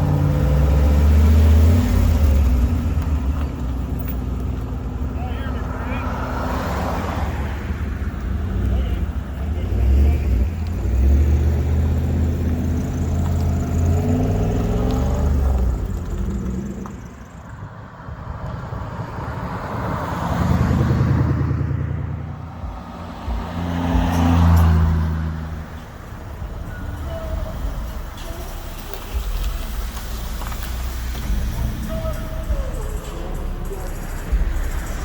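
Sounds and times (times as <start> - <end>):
passing vehicle noise: 0.0 - 35.0
vehicle engines running: 0.0 - 35.0.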